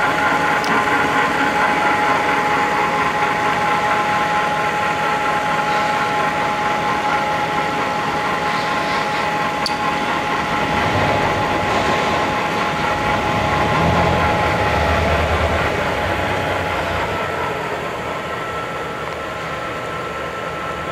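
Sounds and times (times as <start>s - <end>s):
drill press gear whine: 0.0s - 20.9s.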